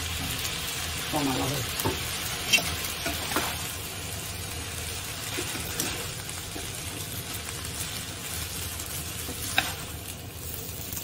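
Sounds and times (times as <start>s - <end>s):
noodles sizzling in frying pan: 0.0s - 11.0s.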